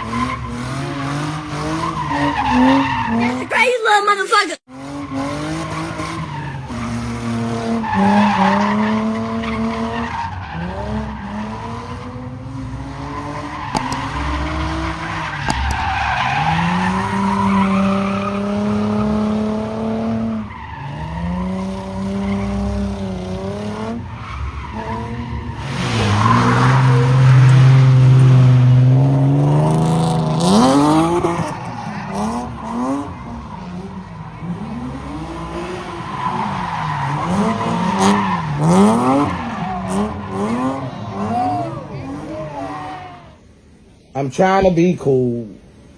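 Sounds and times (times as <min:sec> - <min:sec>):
car engine revving hard: 0:00.0 - 0:03.5, 0:04.7 - 0:43.3
tyres squealing: 0:00.0 - 0:04.6, 0:05.6 - 0:43.4.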